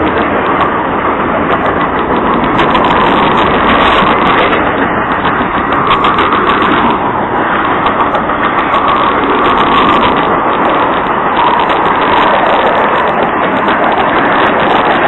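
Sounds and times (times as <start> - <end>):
rapid wheel clicking: 0.0 - 15.0
train wheels rushing on rail: 0.0 - 15.0.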